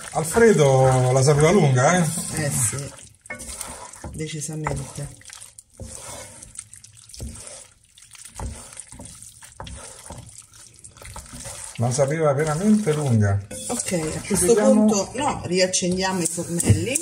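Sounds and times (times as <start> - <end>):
wet stirring of pasta: 0.0 - 17.0.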